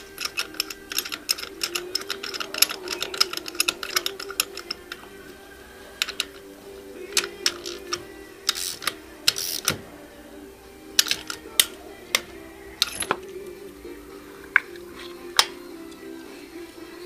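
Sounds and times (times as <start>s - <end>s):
hand tools clicking and clinking: 0.0s - 10.0s, 10.9s - 13.6s, 14.3s - 16.1s
background music: 0.0s - 17.0s.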